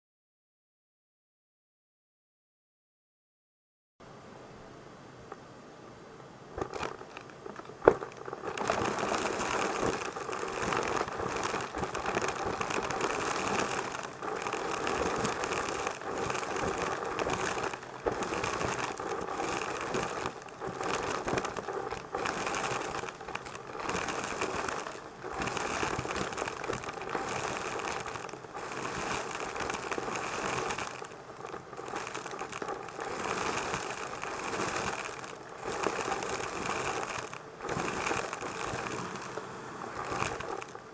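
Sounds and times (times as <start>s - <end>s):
vacuum cleaner running with rattle: 6.6s - 40.9s.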